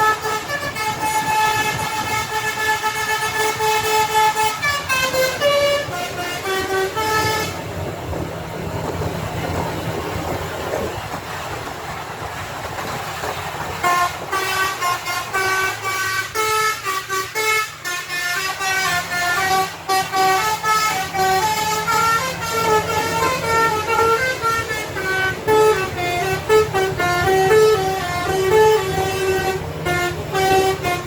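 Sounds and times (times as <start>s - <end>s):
bus horn playing a tune: 0.0s - 8.0s, 13.8s - 31.0s
low engine hum: 0.0s - 31.0s.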